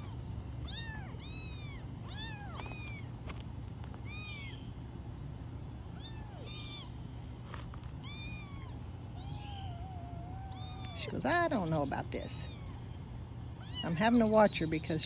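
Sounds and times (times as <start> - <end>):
kittens mewing: 0.0 - 5.0, 5.7 - 15.0
low steady hum: 0.0 - 15.0.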